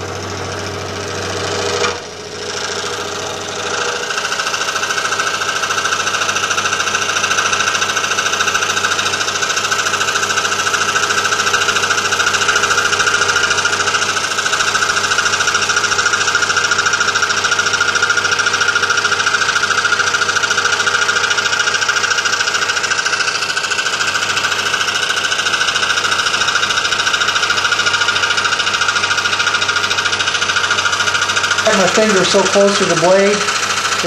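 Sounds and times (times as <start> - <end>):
scroll saw cutting metal: 0.0 - 34.0.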